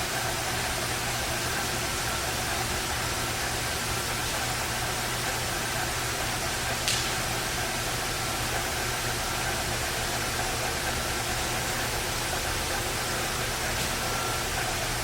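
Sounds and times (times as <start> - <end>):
lathe motor humming: 0.0 - 15.0
machine hiss: 0.0 - 15.0.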